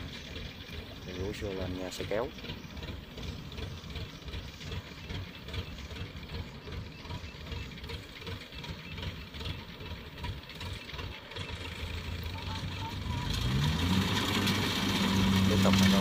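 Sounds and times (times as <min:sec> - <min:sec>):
diesel engine low rough throb: 0:00.0 - 0:16.0.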